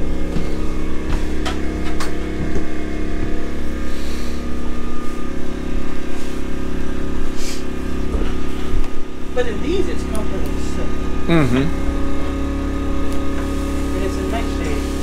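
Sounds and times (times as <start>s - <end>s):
generator engine hum: 0.0s - 15.0s.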